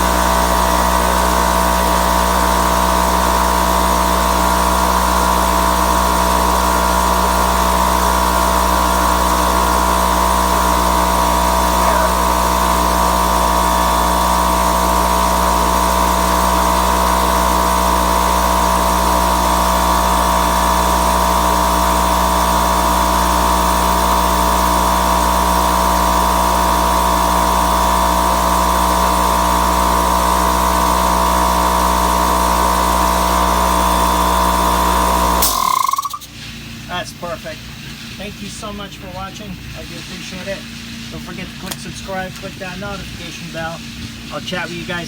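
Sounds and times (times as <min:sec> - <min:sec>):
air compressor running: 0:00.0 - 0:45.0.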